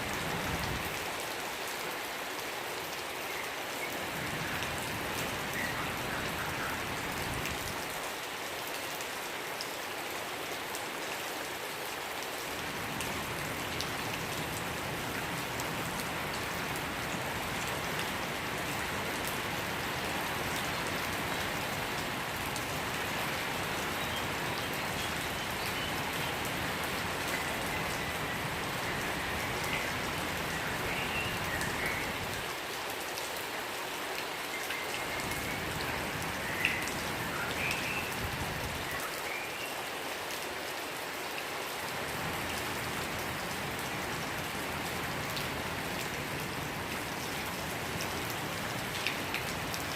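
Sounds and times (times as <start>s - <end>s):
rain pattering: 0.0s - 49.9s.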